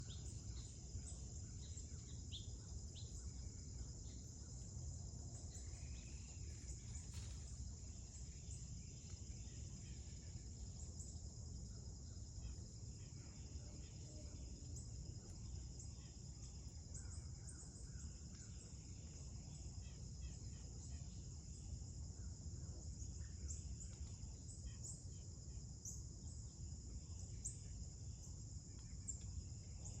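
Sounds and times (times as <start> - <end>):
crickets trilling: 0.0 - 30.0
outdoor background noise: 0.0 - 30.0.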